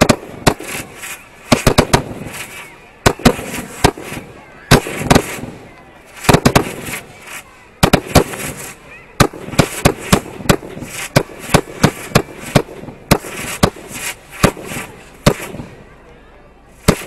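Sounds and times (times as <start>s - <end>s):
fireworks bangs: 0.0s - 15.8s, 16.8s - 17.0s.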